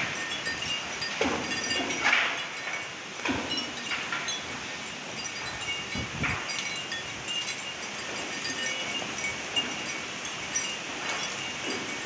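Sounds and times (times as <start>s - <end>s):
heavy rain in wind: 0.0s - 12.0s.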